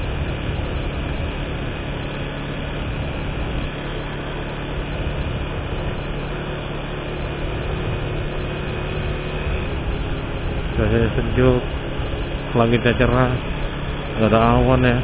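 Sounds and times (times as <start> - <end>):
low engine hum: 0.0 - 15.0
wind and road noise: 0.0 - 15.0.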